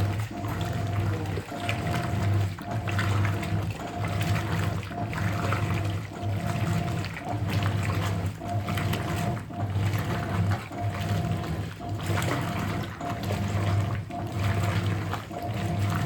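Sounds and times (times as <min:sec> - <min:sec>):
washing machine agitating: 0:00.0 - 0:16.0.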